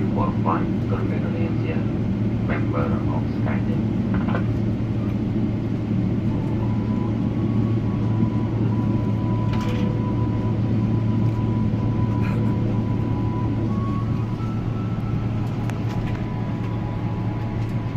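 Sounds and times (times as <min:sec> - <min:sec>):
aircraft cabin rumble and hum: 0:00.0 - 0:17.9.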